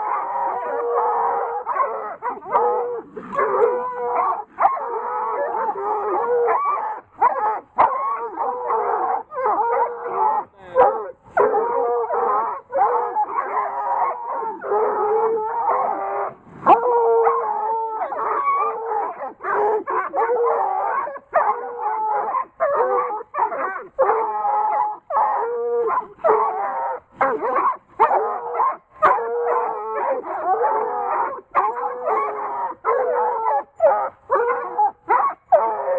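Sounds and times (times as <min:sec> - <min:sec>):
hounds baying: 0:00.0 - 0:35.9.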